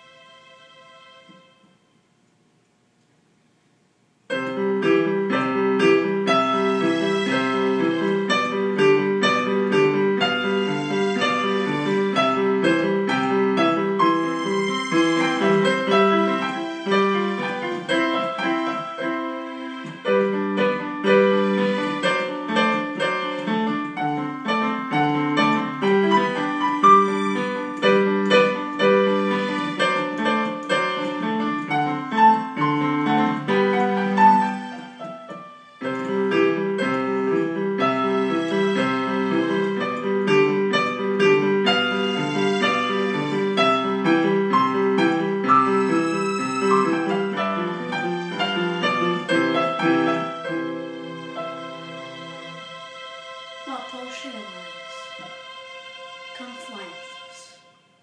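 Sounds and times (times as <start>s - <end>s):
digital piano with strings: 4.3s - 58.0s.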